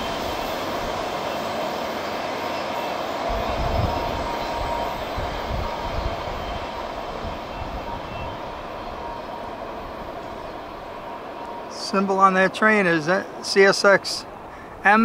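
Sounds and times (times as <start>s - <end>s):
freight train rolling on rails: 0.0s - 15.0s.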